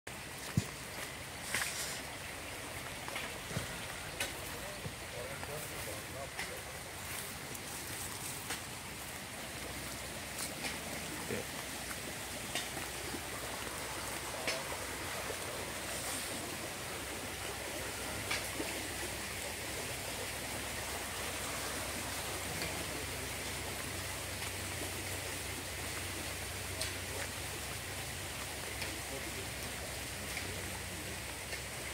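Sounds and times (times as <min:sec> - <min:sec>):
small river flowing: 0:00.1 - 0:31.9.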